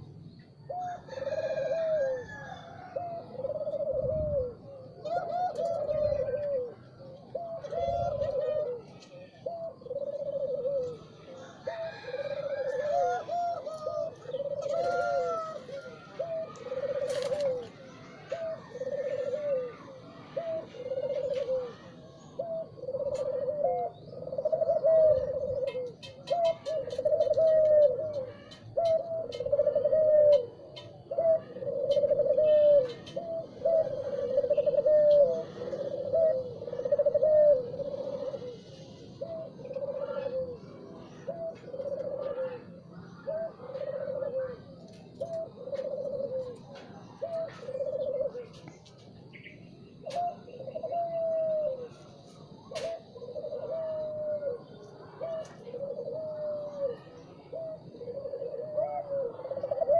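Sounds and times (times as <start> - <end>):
dove cooing: 0.0 - 59.9
faint bird chirps: 2.2 - 59.9.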